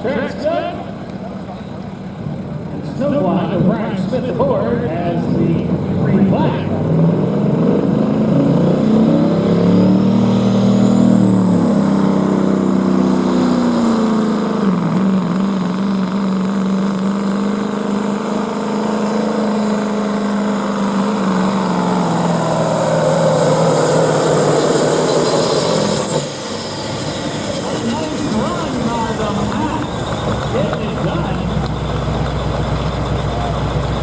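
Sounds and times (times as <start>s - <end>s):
diesel truck engine at full power: 0.0s - 34.0s
high whine: 0.0s - 34.0s.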